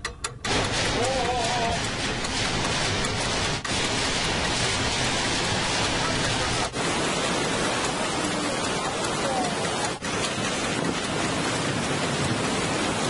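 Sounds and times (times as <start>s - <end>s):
loud rushing noise: 0.4s - 13.0s.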